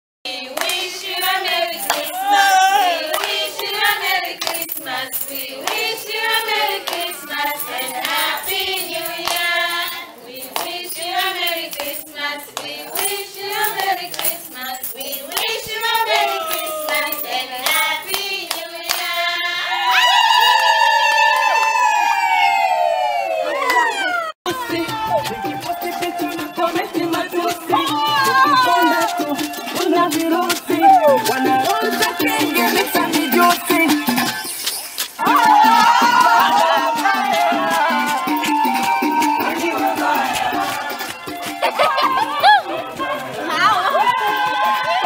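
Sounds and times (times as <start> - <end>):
rhythmic hand clapping: 0.3 - 19.4, 24.5 - 45.0
group singing: 0.3 - 19.8, 24.5 - 34.6, 35.2 - 43.6.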